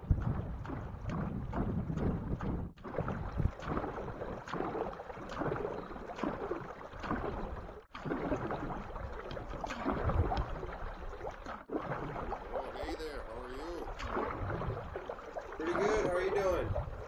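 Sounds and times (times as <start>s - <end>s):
water splashing from paddle strokes: 0.0s - 17.0s.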